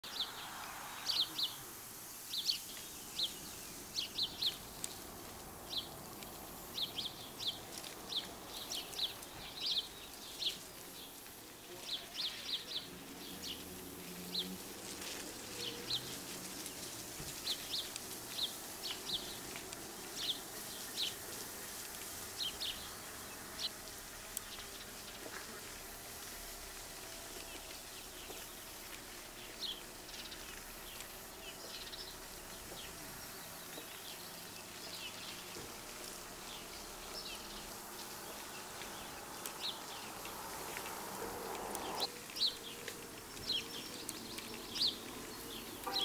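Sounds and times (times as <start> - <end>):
faint steady background hiss: 0.0 - 46.0
small birds chirping: 0.0 - 46.0.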